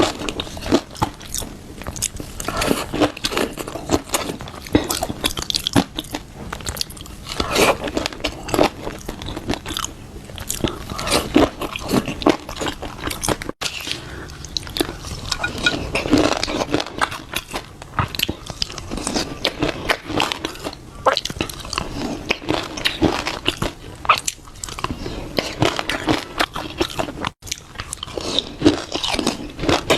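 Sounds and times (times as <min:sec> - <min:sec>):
close-miked chewing with clicks: 0:00.0 - 0:29.9.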